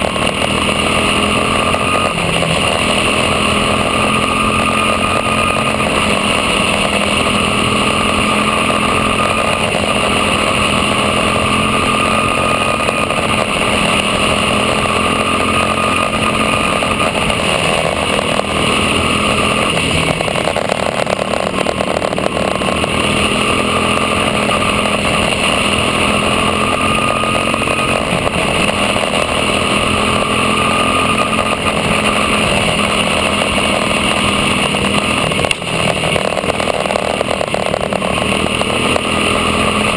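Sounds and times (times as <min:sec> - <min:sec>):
small race car engine running hard: 0:00.0 - 0:39.9.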